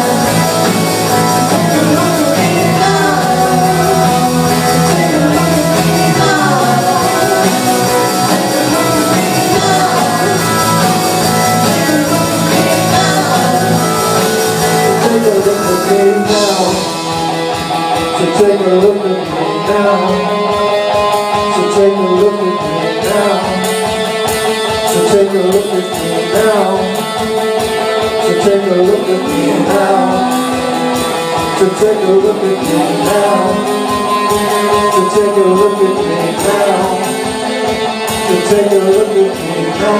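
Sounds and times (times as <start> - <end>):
guitar: 0.0 - 39.9
live rock band playing: 0.0 - 39.9
person singing: 0.0 - 39.9.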